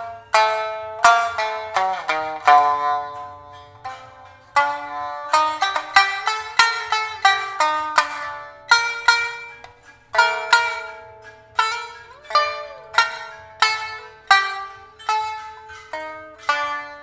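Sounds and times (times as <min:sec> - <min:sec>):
shamisen plucked notes: 0:00.0 - 0:17.0.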